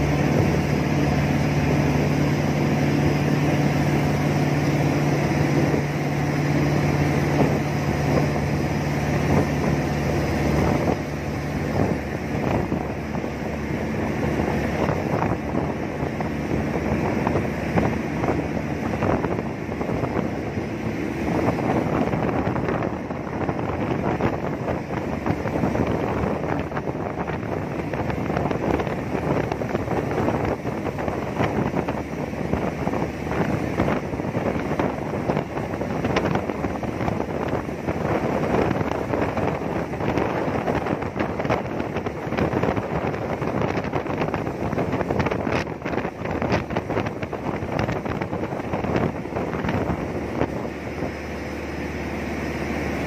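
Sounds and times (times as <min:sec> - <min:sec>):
boat engine humming: 0:00.0 - 0:53.0
rushing water: 0:00.0 - 0:53.0
wind buffeting microphone: 0:00.0 - 0:53.0.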